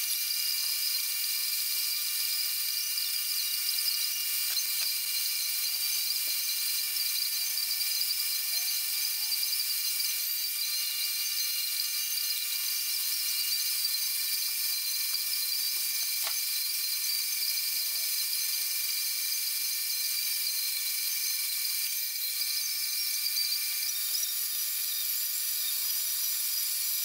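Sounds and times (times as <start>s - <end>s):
milling machine whine: 0.0s - 27.0s.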